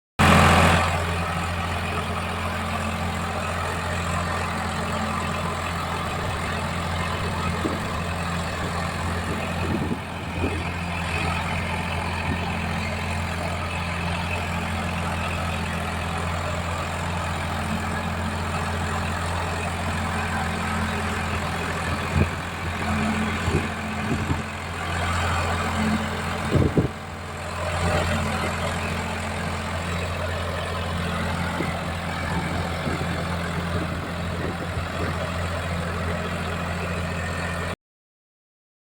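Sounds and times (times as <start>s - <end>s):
tractor diesel engine idling: 0.2s - 37.8s.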